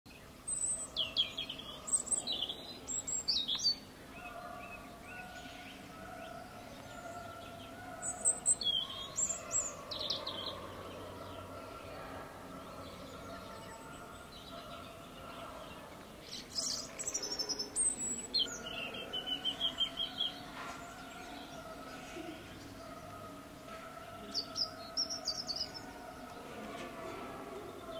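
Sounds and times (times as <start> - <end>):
small birds chirping: 0.1 - 27.9.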